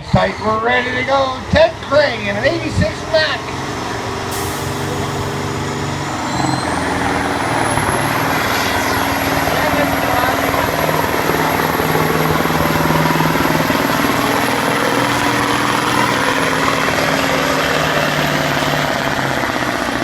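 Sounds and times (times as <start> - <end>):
diesel truck engine under heavy load: 0.0 - 20.0.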